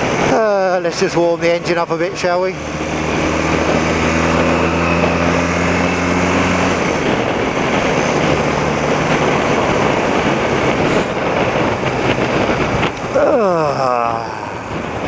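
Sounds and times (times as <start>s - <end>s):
motorcycle engine running: 0.0s - 14.1s
rough rushing noise: 0.0s - 15.0s.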